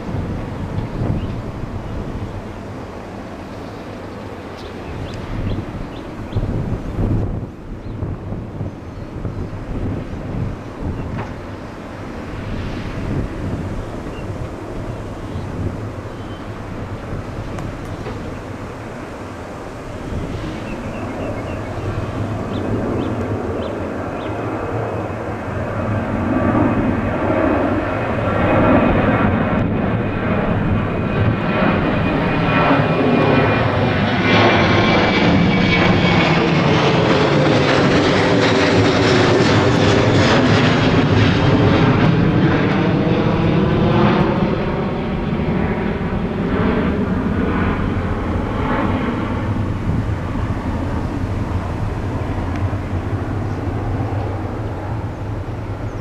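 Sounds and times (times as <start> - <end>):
high fan whine: 0.0 - 56.0
jet engine roar: 0.0 - 56.0.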